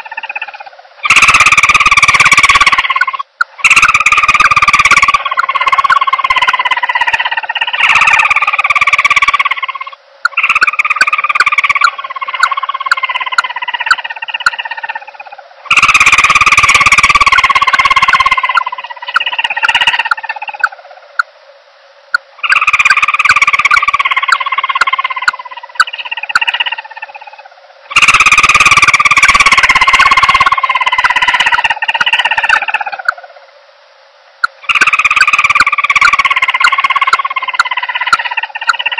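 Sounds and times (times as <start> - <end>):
dove calls: 0.0 - 21.3, 22.4 - 33.3, 34.4 - 38.9.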